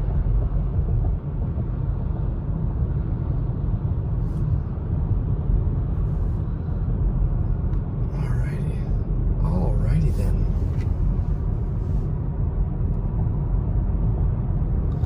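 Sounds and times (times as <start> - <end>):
car driving inside cabin: 0.0 - 15.0.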